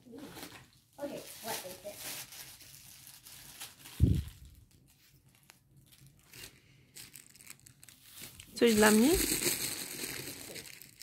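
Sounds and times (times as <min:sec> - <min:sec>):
plastic bags crinkling: 0:00.2 - 0:11.0.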